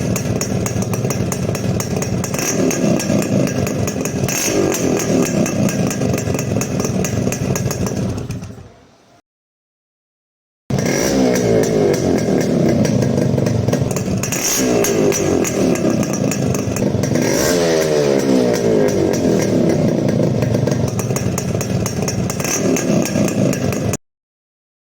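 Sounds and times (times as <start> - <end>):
two-stroke motorcycle engine revving: 0.0 - 8.7, 10.7 - 24.0.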